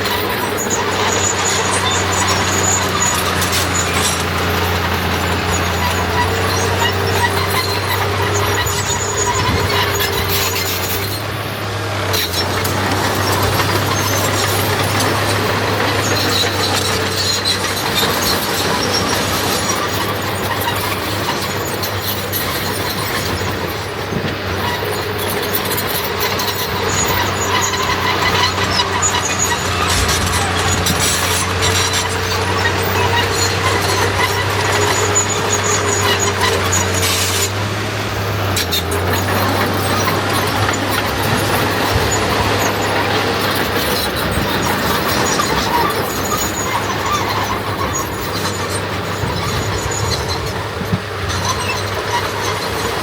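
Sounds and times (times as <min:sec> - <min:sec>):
diesel engine under load: 0:00.0 - 0:53.0
shrill squealing of tracks: 0:00.0 - 0:53.0.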